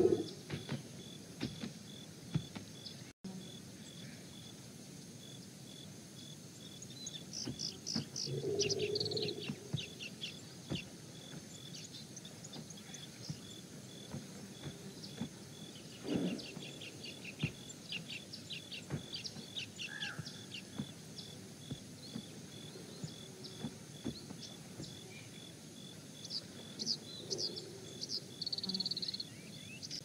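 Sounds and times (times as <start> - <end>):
birds chirping: 0.0 - 5.6, 6.2 - 30.0.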